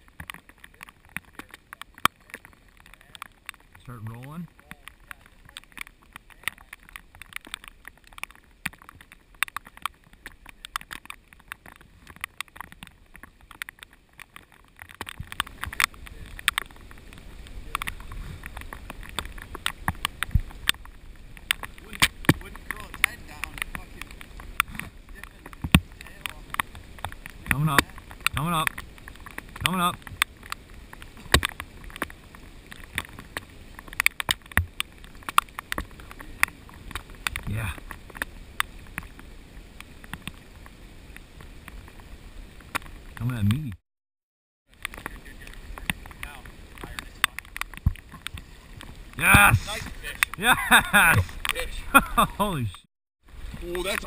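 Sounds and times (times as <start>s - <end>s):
moving water: 0.0s - 43.8s, 44.7s - 54.0s
raindrops tapping on camera housing: 0.0s - 43.8s, 44.6s - 54.0s.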